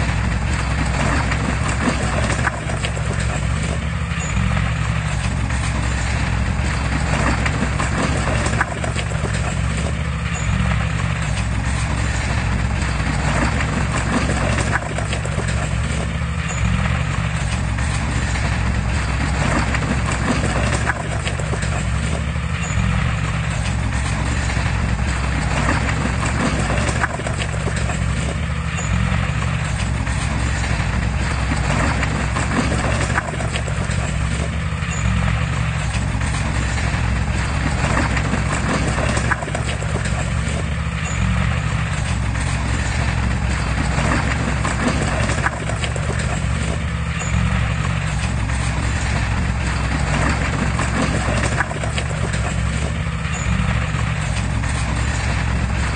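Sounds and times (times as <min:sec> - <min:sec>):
heavy diesel engine running: 0:00.0 - 0:55.9
metallic clanking and knocking: 0:00.0 - 0:55.9.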